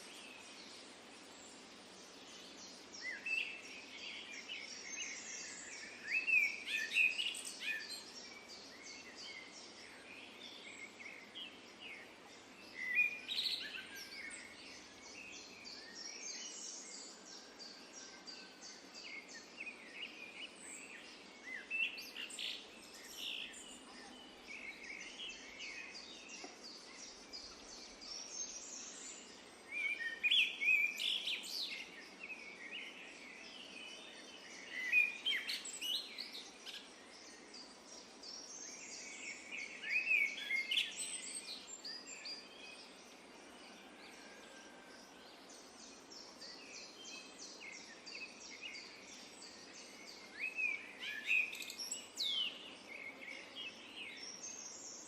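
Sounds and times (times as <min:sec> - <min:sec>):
songbirds chirping and twittering: 0:00.0 - 0:55.0
steady background hiss: 0:00.0 - 0:55.0.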